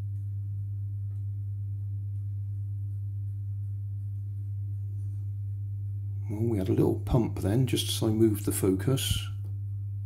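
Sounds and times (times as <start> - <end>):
electric fan hum: 0.0 - 10.0.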